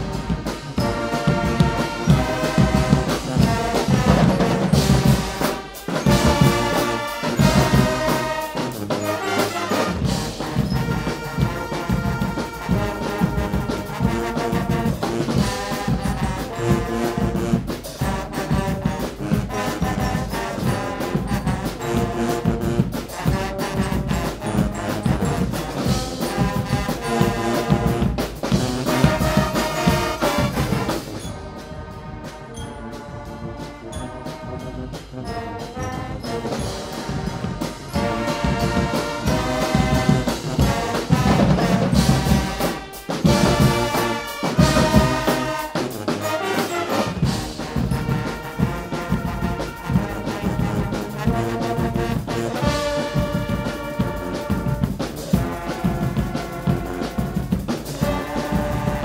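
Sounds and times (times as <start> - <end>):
brass band playing loudly: 0.0 - 59.0
drum kit and cymbals: 0.0 - 59.0.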